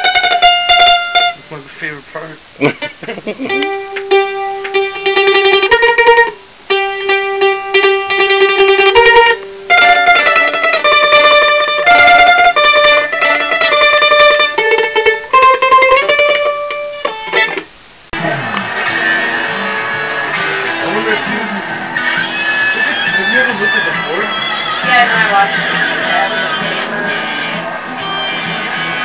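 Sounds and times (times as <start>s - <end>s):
mandolin tremolo melody: 0.0s - 2.0s, 2.6s - 29.0s.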